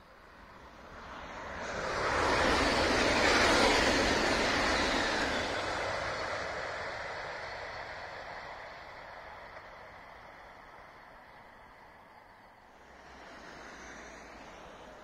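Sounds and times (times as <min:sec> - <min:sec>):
high-speed train passing: 0:00.0 - 0:15.0.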